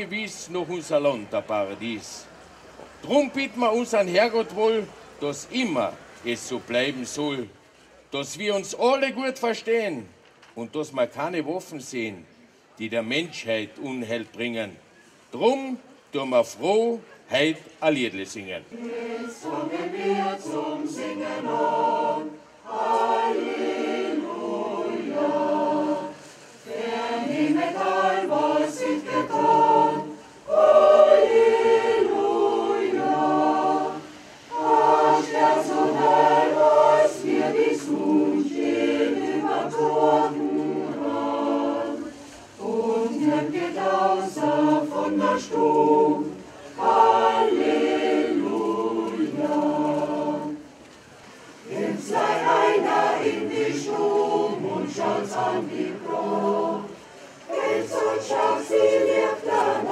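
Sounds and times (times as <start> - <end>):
choir singing unaccompanied: 0.0 - 7.5, 18.3 - 50.8, 51.4 - 59.9.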